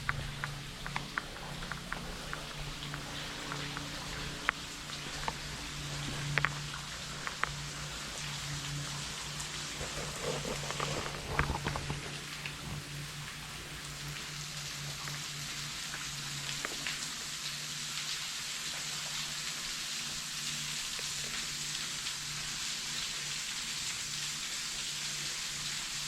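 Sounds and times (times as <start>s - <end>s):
faint water drips: 0.0s - 26.0s.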